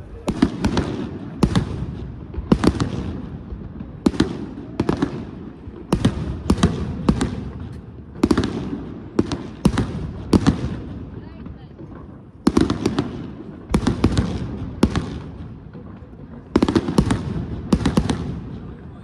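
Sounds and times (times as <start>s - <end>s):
fireworks bangs with crackling tails: 0.0s - 19.0s.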